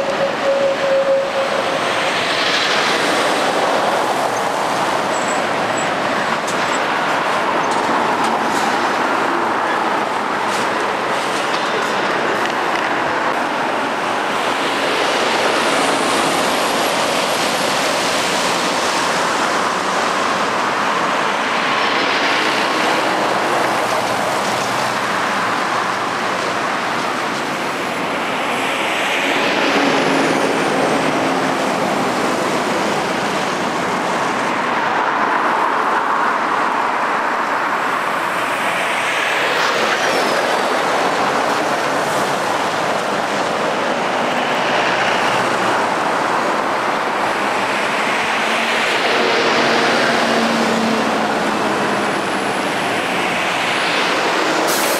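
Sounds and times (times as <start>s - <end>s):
cars and lorries driving by: 0.0s - 54.9s.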